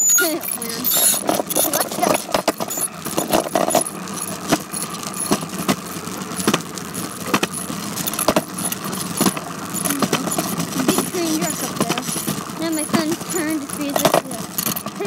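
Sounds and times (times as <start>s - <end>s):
bicycle rattle: 0.0s - 15.0s
bicycle rolling hiss: 0.0s - 15.0s.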